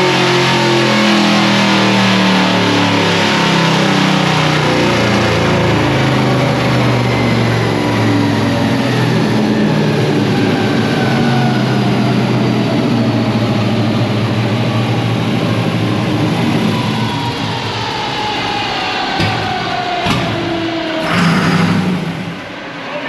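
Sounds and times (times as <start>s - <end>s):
truck engine running on dyno rollers: 0.0s - 22.8s.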